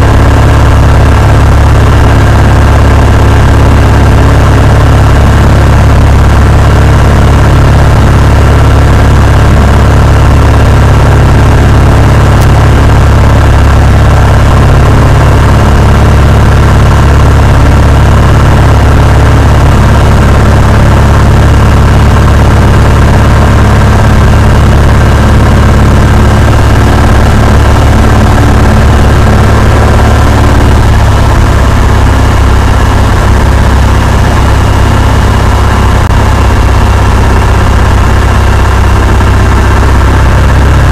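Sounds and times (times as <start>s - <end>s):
light aircraft engine drone: 0.0s - 40.9s.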